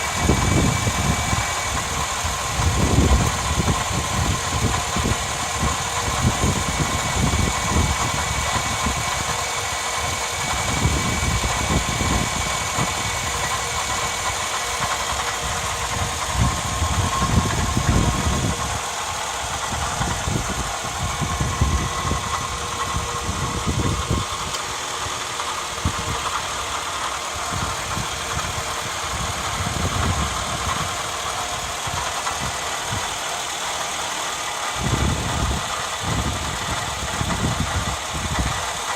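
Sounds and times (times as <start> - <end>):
belt tensioner whine: 0.0 - 38.9
car engine idling: 0.0 - 38.9.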